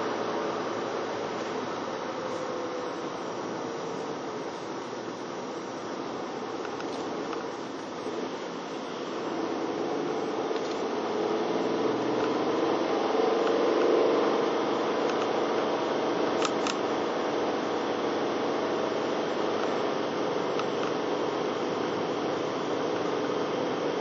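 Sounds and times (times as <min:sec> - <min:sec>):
car engine and tyre hum: 0:00.0 - 0:24.0.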